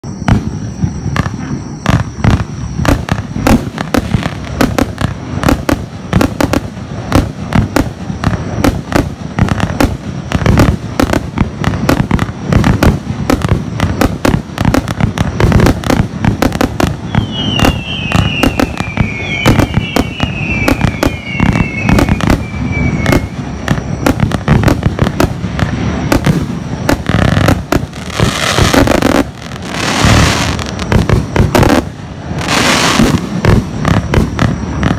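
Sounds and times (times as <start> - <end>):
dense firework crackle: 0.0 - 34.9
falling firework whistles: 0.0 - 34.9
fireworks firing shots and bursts: 0.0 - 34.9.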